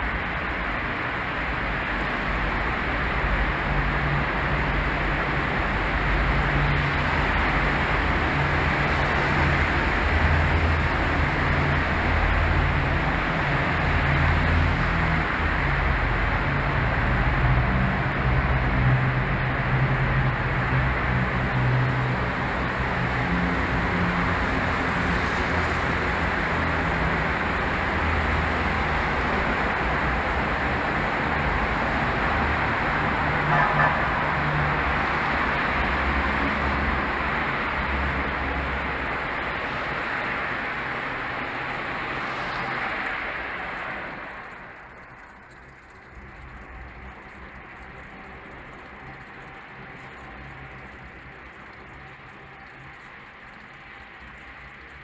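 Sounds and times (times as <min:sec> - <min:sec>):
traffic rumble in tunnel: 0:00.0 - 0:55.0.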